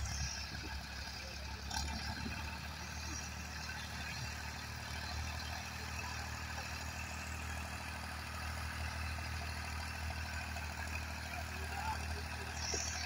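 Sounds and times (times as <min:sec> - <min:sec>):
small engine running under load: 0:00.0 - 0:13.0.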